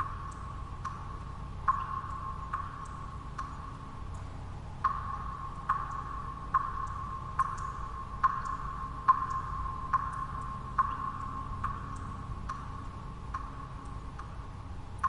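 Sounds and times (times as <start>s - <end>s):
water drops plinking: 0.0s - 14.4s
low white-noise hum: 0.0s - 15.0s.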